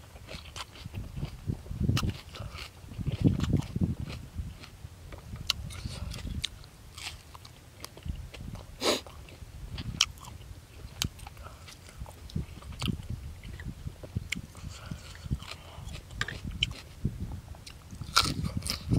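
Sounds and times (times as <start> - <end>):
chewing and lip-smacking: 0.1 - 17.0, 17.6 - 18.9.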